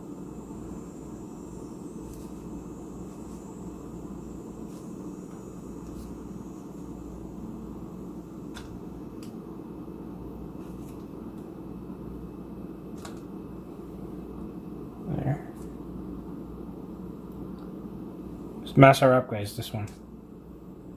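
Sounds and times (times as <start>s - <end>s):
low background hum: 0.0s - 20.9s.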